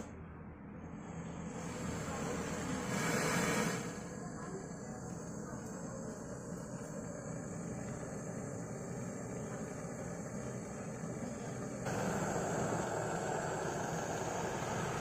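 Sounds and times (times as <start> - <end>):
gas torch flame hissing: 1.1 - 15.0.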